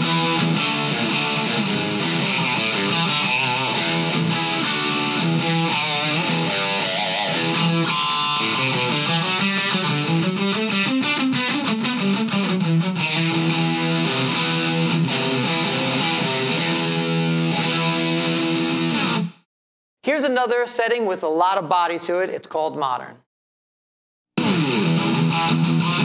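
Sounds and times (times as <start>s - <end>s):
distorted electric guitar: 0.0s - 19.4s, 24.4s - 26.0s.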